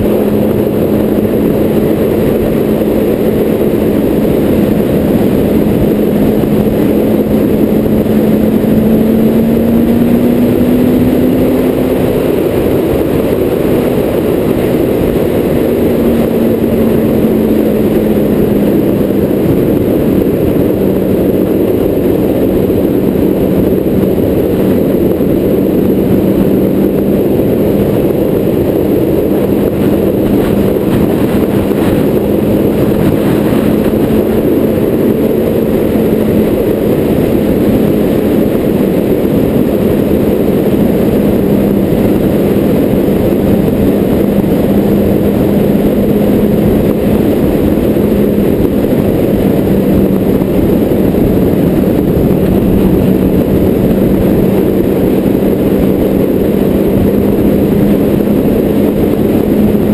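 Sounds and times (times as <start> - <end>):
car engine droning: 0.0 - 59.9
road noise: 0.0 - 59.9.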